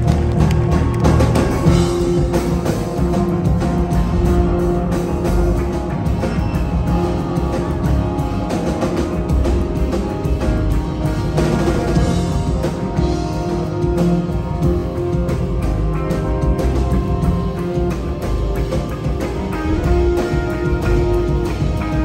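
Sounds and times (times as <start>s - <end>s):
double bass: 0.0s - 22.0s
drum kit: 0.0s - 22.0s
electric guitar: 0.0s - 22.0s
piano: 0.0s - 22.0s.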